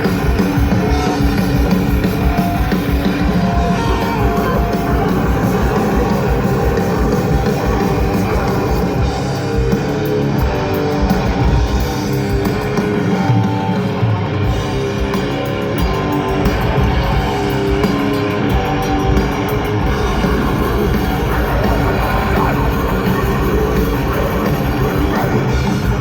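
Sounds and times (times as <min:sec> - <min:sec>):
death metal band playing live: 0:00.0 - 0:26.0.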